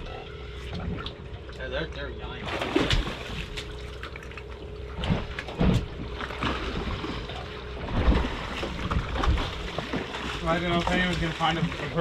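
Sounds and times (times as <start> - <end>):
low steady hum: 0.0 - 12.0
water splashing against a boat: 0.0 - 12.0.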